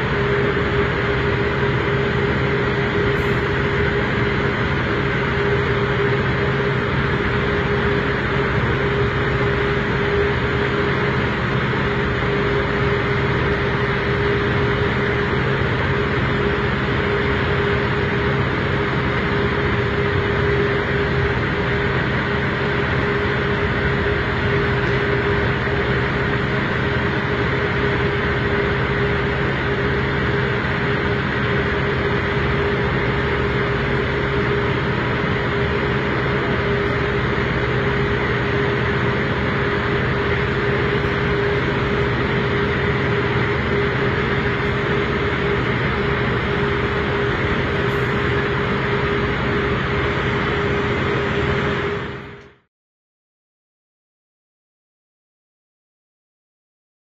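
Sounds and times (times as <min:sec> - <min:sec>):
machinery drone with hum: 0:00.0 - 0:52.7.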